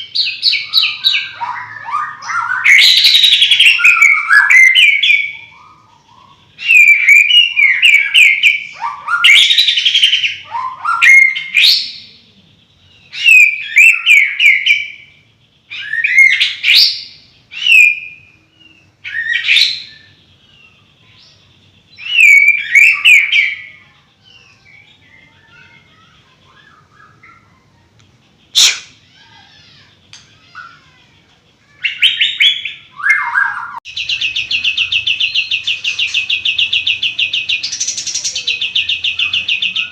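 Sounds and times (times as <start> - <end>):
buzzy bird trill: 0.0 - 39.9
songbird singing: 0.0 - 39.9.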